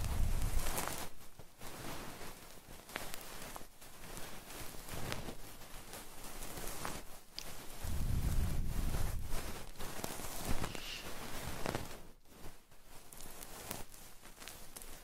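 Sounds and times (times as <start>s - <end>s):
rustling against microphone: 0.0s - 15.0s.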